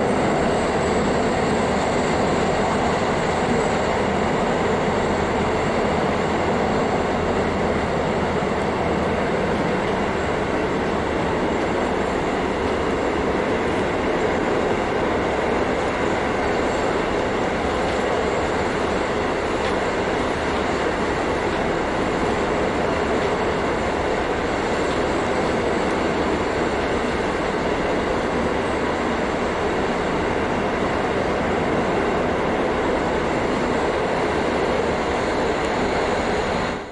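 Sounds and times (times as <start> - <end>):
diesel engine drone: 0.0 - 36.9
wheel and rail rumble: 0.0 - 36.9.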